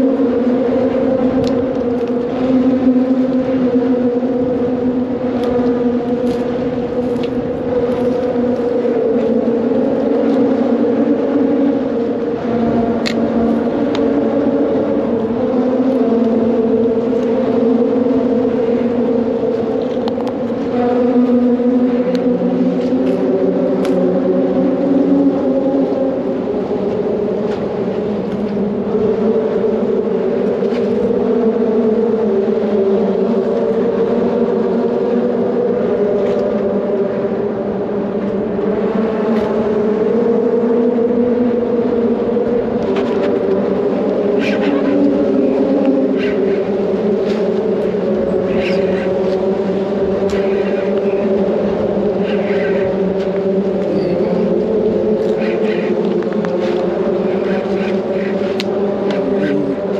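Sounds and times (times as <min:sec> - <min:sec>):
steady engine drone: 0:00.0 - 0:59.9.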